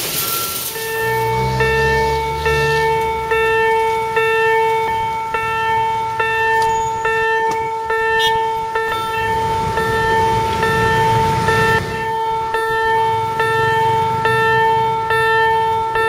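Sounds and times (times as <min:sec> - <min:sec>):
railroad crossing bell ringing: 0:00.0 - 0:16.0
steady high tone: 0:00.3 - 0:16.0.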